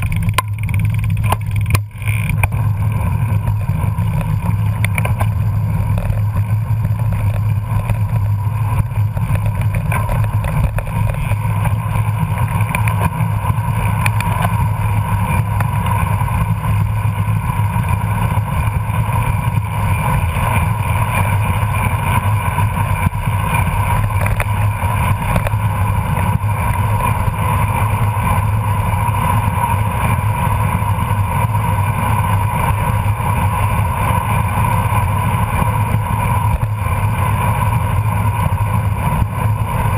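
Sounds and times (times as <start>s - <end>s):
bicycle road noise: 0.0s - 39.9s
wind rush on microphone: 0.0s - 39.9s.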